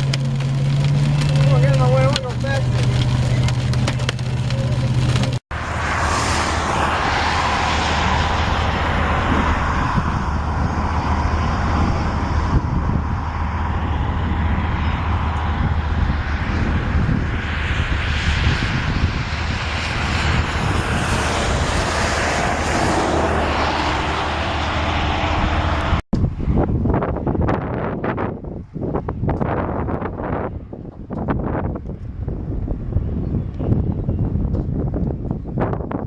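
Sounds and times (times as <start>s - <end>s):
low rumble: 0.0s - 36.0s
wind on microphone: 0.0s - 36.0s.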